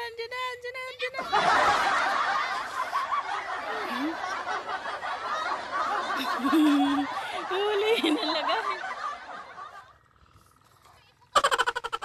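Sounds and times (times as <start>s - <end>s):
people laughing and chattering: 1.1s - 11.3s.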